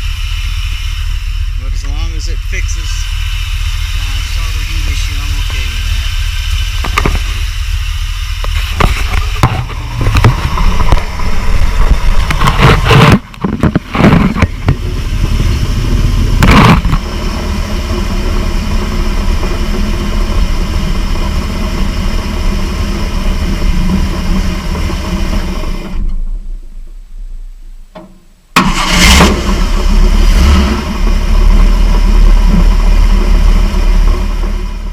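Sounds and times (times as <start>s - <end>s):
engine idling and revving: 0.0s - 27.1s, 28.5s - 34.9s.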